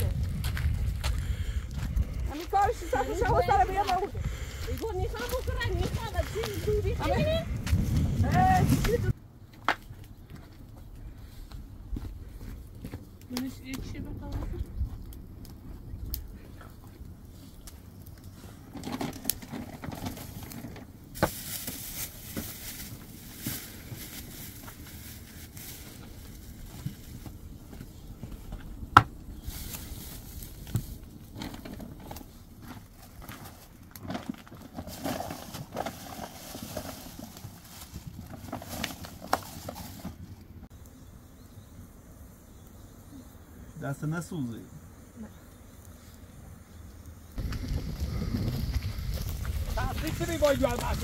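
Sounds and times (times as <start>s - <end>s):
campfire crackling and popping: 0.0s - 40.9s, 47.0s - 51.0s.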